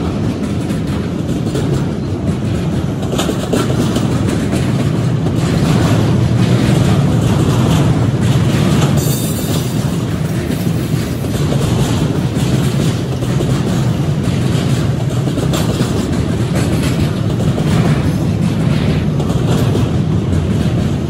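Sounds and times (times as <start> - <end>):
clicking over rail joints: 0.0 - 21.0
train wheels rumbling on rails: 0.0 - 21.0.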